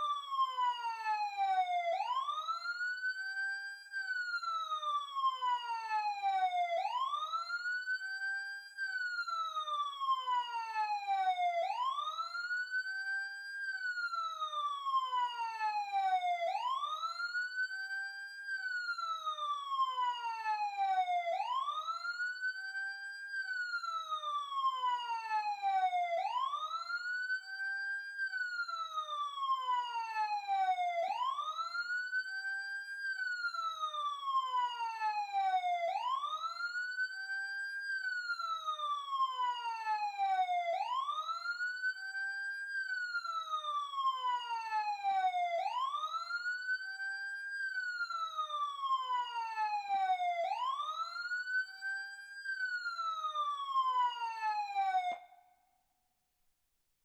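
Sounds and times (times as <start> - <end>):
emergency siren wailing: 0.0 - 55.6.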